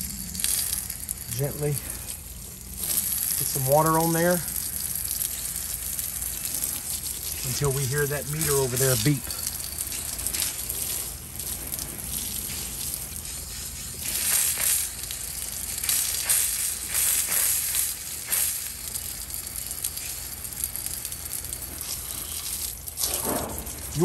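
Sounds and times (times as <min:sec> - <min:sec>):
hose water spraying on metal: 0:00.0 - 0:24.0.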